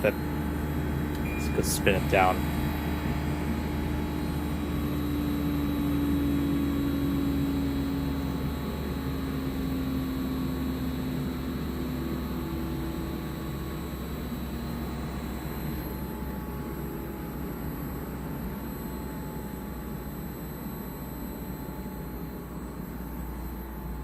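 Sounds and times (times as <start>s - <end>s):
air conditioner fan spinning down: 0.0s - 24.0s.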